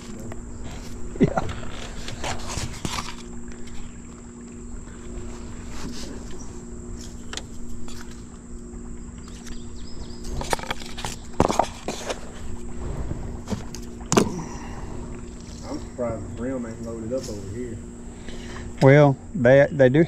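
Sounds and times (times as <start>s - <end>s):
electric motor humming: 0.0s - 19.3s.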